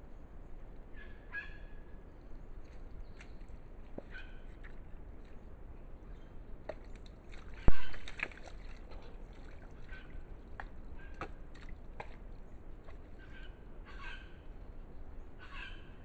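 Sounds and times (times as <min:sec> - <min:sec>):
mud and water sloshing: 0:02.2 - 0:15.2.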